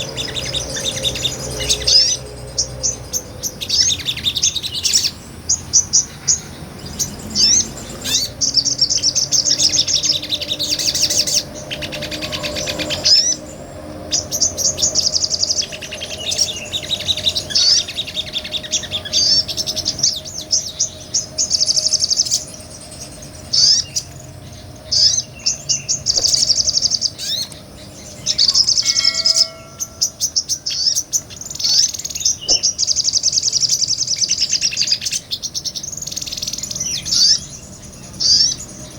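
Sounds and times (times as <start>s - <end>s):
small bird singing trills: 0.0s - 38.9s.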